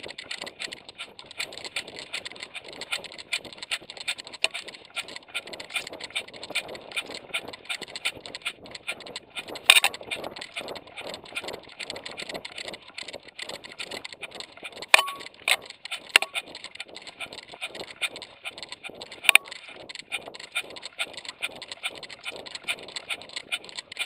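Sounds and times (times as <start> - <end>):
camera rustling and rattling: 0.0 - 24.0.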